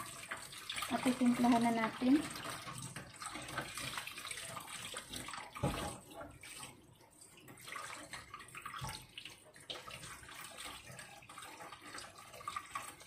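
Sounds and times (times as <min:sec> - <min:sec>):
water running from tap: 0:00.0 - 0:13.0.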